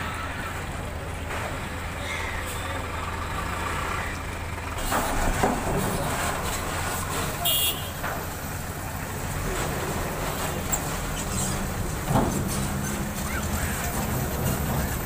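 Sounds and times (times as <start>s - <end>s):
vehicle engines humming: 0.0s - 15.0s
vehicles over steel ramp: 0.0s - 15.0s.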